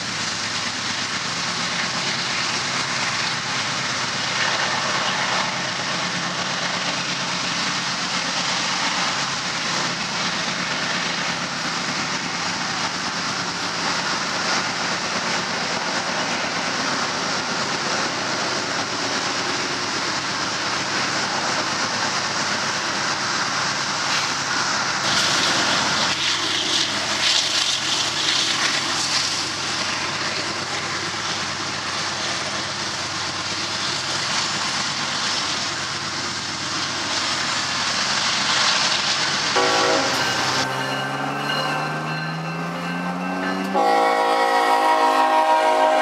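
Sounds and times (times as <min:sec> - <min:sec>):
rail noise: 0:00.0 - 0:46.0
train cars rumbling over bridge: 0:00.0 - 0:46.0.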